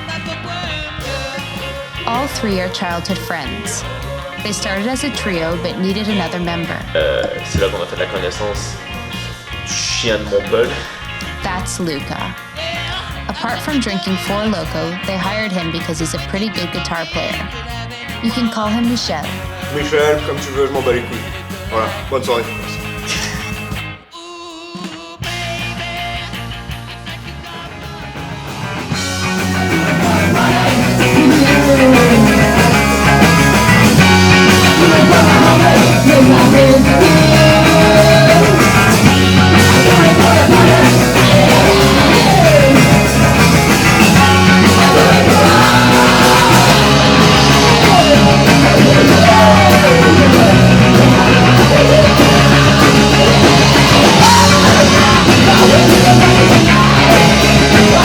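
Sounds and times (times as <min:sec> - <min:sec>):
electric guitar bending notes: 0:00.0 - 0:24.1, 0:24.9 - 0:58.0
punk rock band playing: 0:00.0 - 0:58.0.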